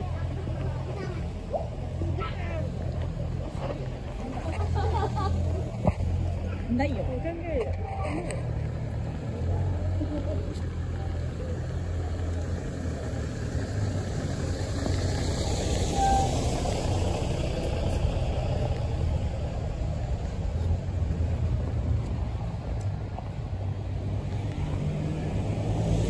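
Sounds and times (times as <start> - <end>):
bus driving past: 0.0 - 26.0.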